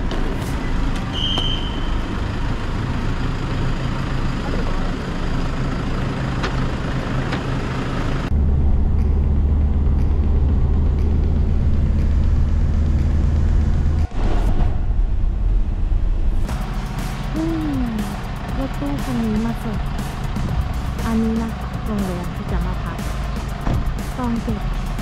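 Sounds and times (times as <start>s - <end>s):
van engines idling: 0.0s - 14.2s, 14.9s - 25.0s
engine and road drone inside van: 0.0s - 25.0s
traffic: 0.0s - 25.0s.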